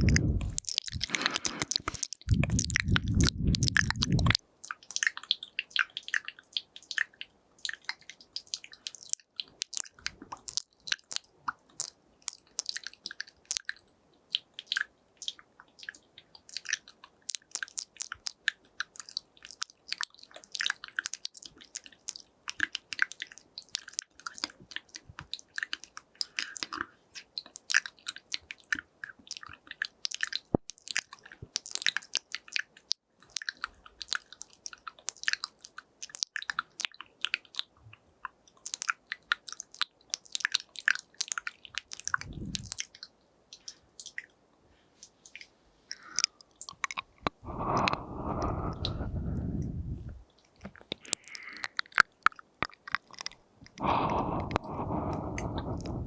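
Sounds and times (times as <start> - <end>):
wet mouth clicks and smacks: 0.0 - 44.4, 45.0 - 56.0.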